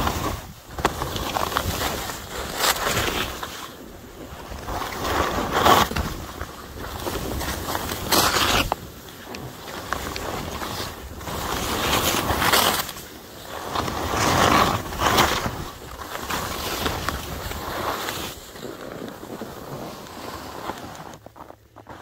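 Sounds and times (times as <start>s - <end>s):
skis carving through snow: 0.0s - 22.0s.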